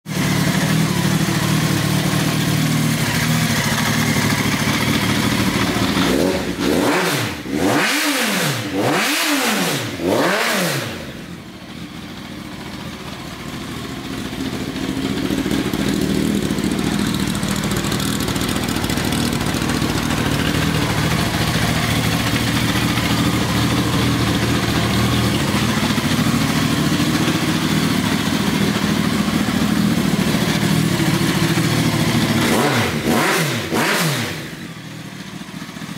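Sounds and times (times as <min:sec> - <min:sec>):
motorcycle engine idling and revving: 0:00.0 - 0:35.9.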